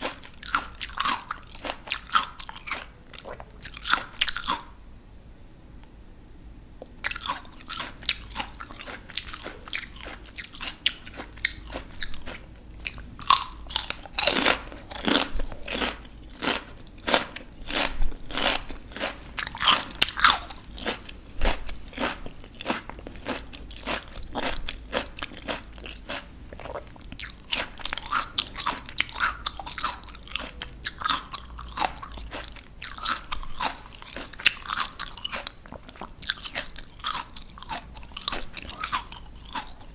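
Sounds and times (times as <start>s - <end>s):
crunchy vegetables being chewed: 0.0s - 4.8s, 6.8s - 39.9s.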